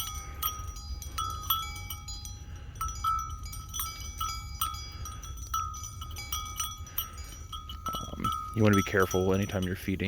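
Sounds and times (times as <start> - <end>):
small metal bells ringing: 0.0 - 10.0.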